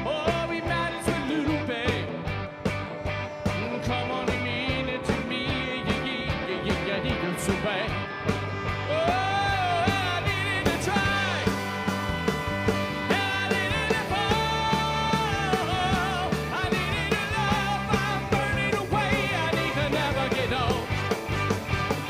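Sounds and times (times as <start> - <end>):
live rock band playing: 0.0 - 22.0
trumpet and saxophone melody: 0.1 - 22.0.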